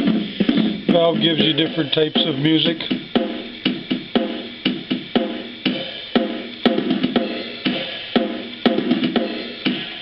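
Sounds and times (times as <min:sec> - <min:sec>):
drum machine beat through speaker: 0:00.0 - 0:10.0.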